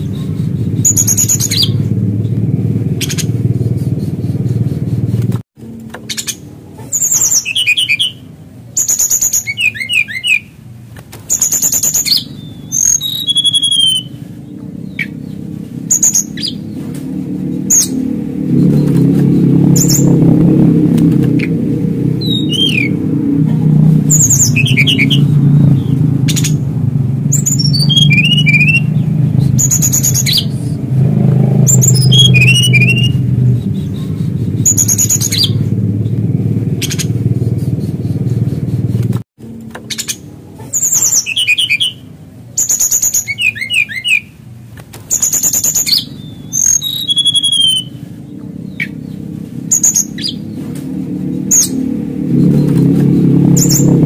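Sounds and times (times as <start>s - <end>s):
flycatcher singing: 0.0s - 10.6s, 11.3s - 39.1s, 39.7s - 44.4s, 45.1s - 54.0s.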